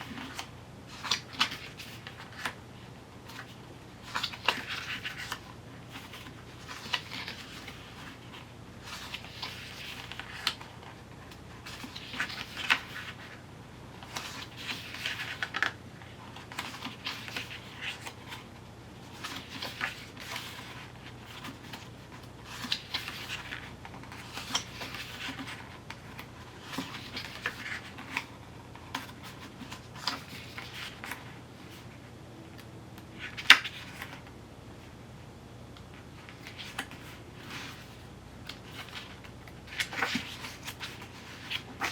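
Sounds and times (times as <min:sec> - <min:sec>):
paper and card rustling: 0:00.0 - 0:02.6, 0:03.2 - 0:13.4, 0:14.0 - 0:32.0, 0:33.1 - 0:34.3, 0:36.1 - 0:41.9.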